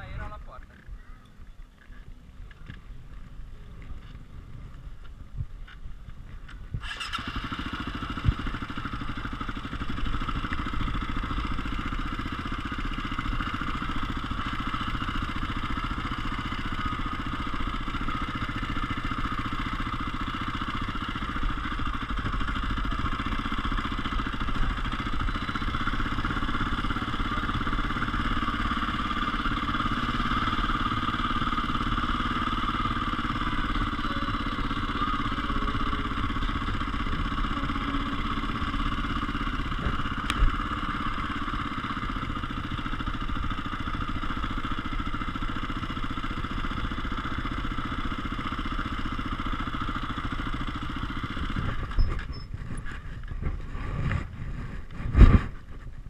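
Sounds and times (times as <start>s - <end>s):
motorcycle engine running at low throttle: 0.0s - 56.0s.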